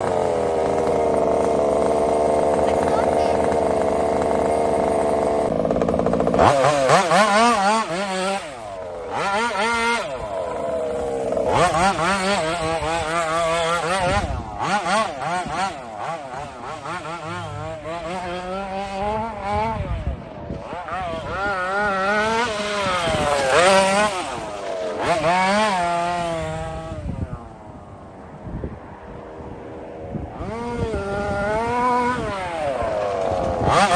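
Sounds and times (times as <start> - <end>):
small two-stroke engine revving: 0.0 - 28.1, 29.1 - 33.9.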